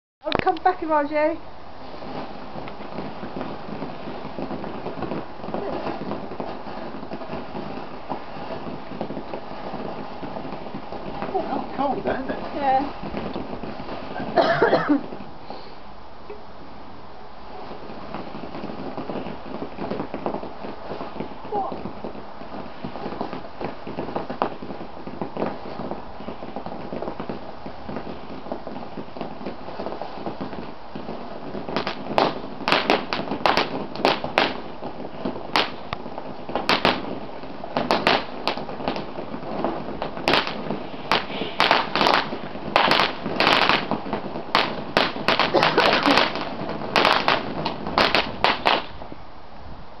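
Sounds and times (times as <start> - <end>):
crackling pops: 0.2 - 16.4, 17.5 - 49.2
fountain firework spraying hiss: 0.6 - 16.0, 17.4 - 49.2.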